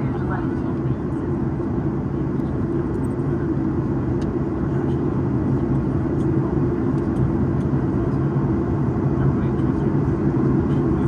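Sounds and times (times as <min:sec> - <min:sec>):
jet engine cabin drone: 0:00.0 - 0:11.0.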